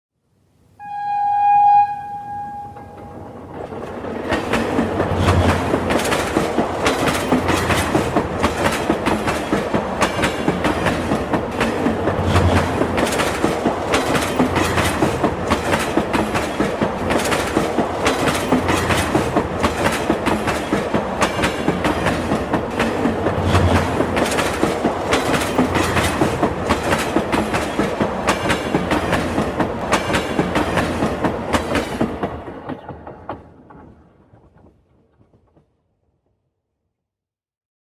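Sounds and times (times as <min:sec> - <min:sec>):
train wheels clickety-clack: 0:02.8 - 0:35.8.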